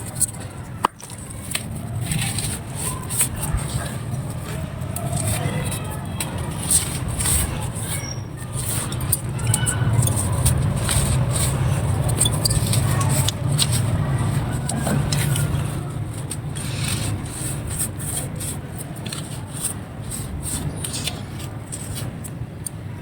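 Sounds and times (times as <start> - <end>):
dry clay crumbling: 0.0 - 22.8.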